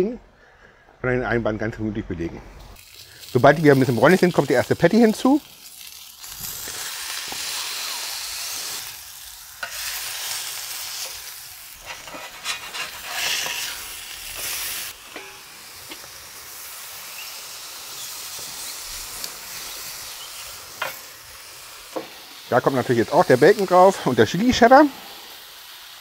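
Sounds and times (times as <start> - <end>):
meat patty sizzling on a griddle: 2.8 - 26.0.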